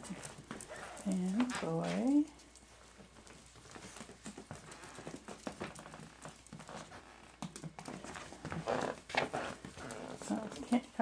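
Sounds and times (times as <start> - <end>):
puppies' paws pattering: 0.0 - 11.0.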